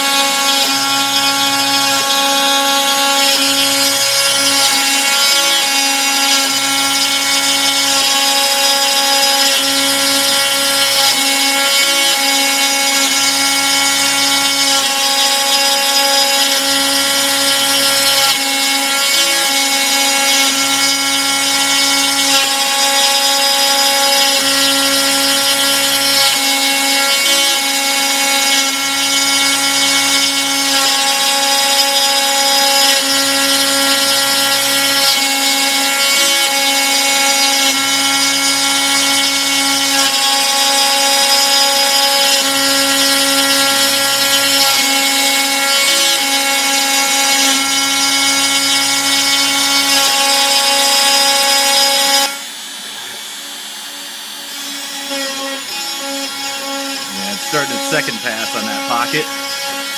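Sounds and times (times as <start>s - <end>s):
cutting noise: 0.0s - 52.3s, 55.2s - 59.9s
router motor whine: 0.0s - 59.9s.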